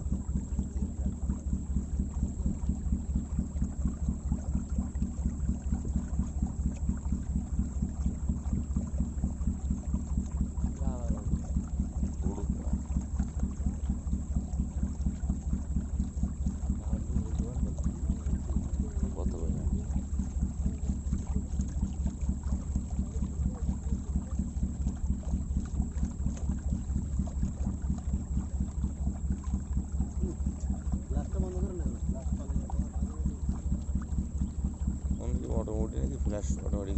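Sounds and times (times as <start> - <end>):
motorboat engine running: 0.0 - 36.9.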